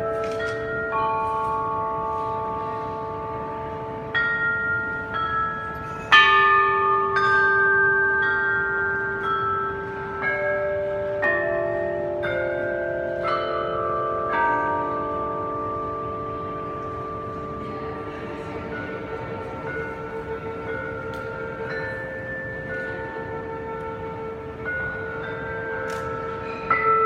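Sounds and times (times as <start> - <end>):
bells struck at different pitches: 0.0 - 27.0.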